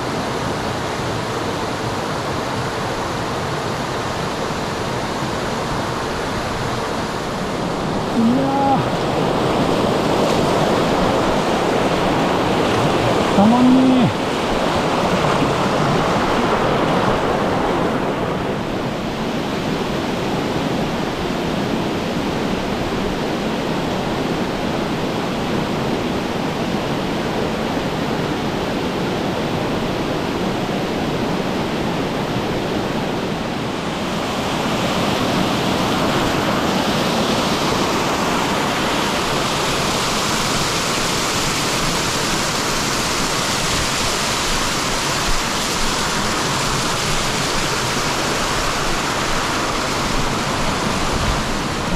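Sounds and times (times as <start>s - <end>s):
stream rushing over rock: 0.0s - 51.9s.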